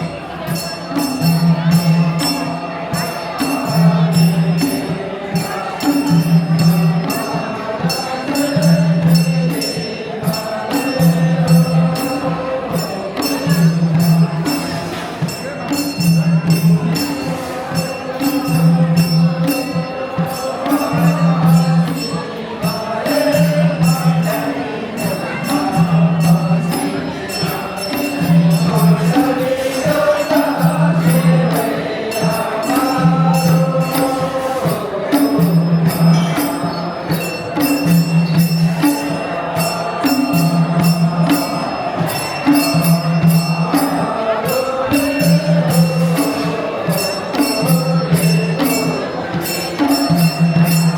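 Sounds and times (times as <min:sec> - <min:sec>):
folk song singing: 0:00.0 - 0:50.9
jingling percussion: 0:00.0 - 0:50.9.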